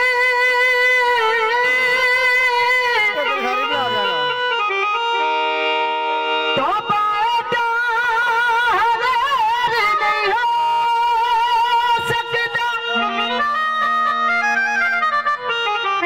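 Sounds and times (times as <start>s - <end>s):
devotional folk music over loudspeakers: 0.0s - 16.0s.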